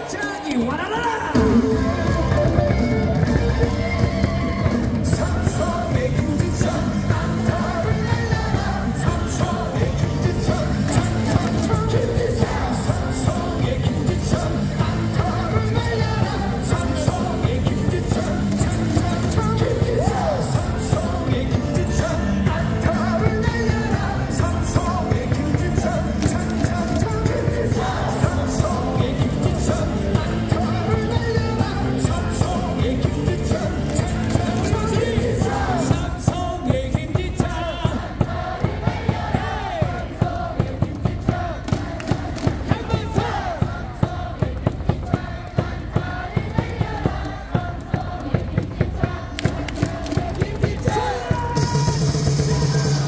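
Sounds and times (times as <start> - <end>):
cheer song over loudspeakers: 0.0 - 53.0
crowd singing and shouting: 0.0 - 53.0.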